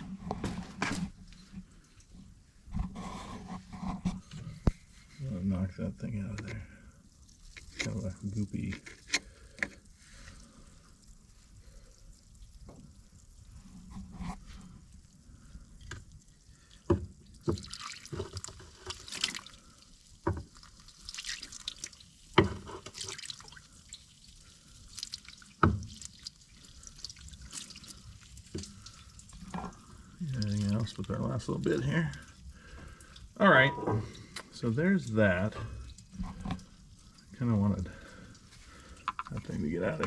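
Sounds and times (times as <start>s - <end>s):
liquid splashing and dripping: 6.2s - 40.0s.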